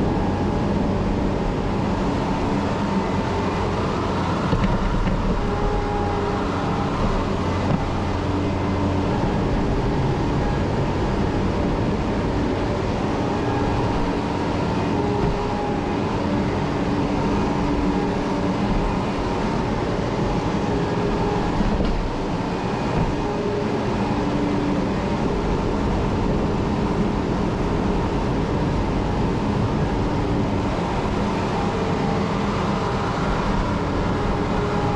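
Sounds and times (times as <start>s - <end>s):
farm machinery humming: 0.0s - 34.9s.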